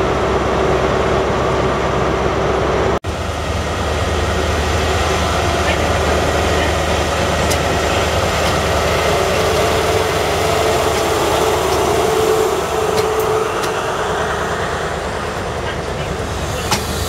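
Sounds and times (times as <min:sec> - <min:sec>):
diesel engine rumble: 0:00.0 - 0:17.0
wheels clicking on track: 0:03.2 - 0:17.0.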